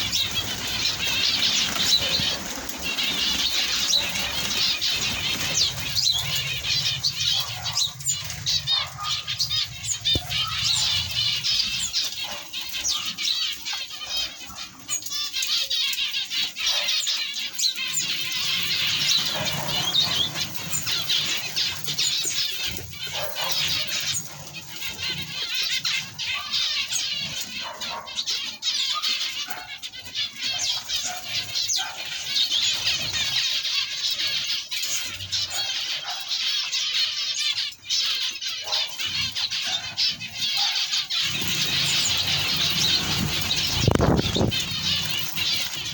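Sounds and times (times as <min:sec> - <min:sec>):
cage birds chirping: 0:00.0 - 0:45.9.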